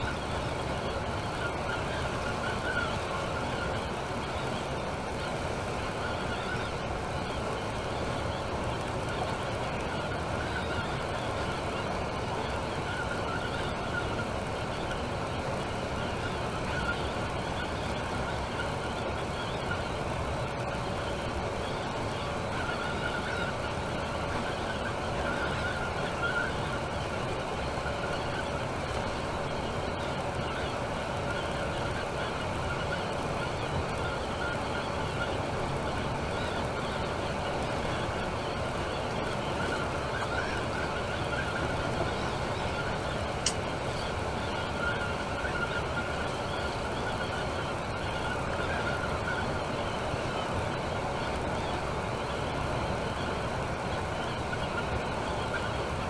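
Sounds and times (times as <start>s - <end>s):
faint steady whine: 0.0s - 56.0s.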